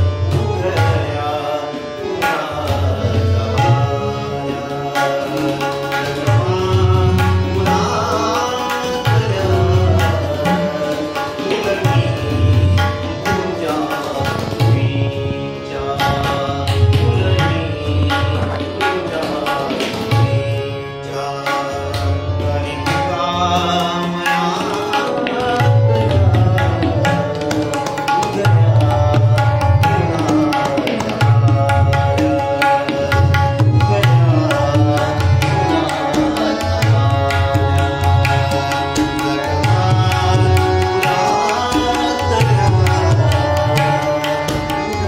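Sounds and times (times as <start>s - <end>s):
harmonium chords and melody: 0.0s - 45.0s
tabla drumming: 0.0s - 45.0s.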